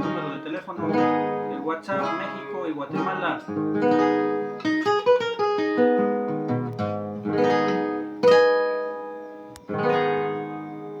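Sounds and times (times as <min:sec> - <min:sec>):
small guitar plucked and strummed: 0:00.0 - 0:11.0.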